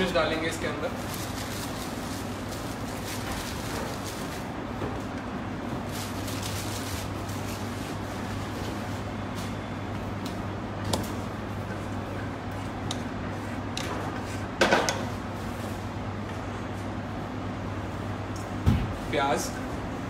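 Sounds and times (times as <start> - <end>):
low kitchen hum: 0.0 - 20.0.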